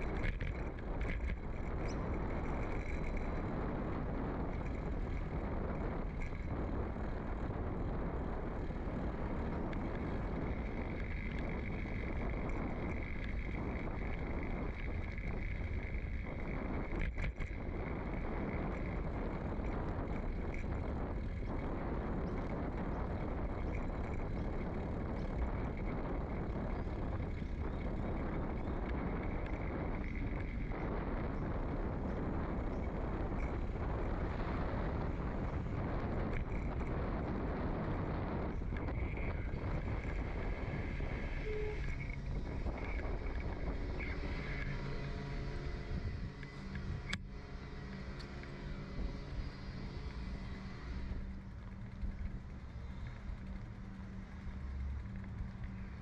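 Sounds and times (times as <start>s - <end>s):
tyres rumbling on asphalt: 0.0s - 56.0s
wind noise on microphone: 0.0s - 56.0s.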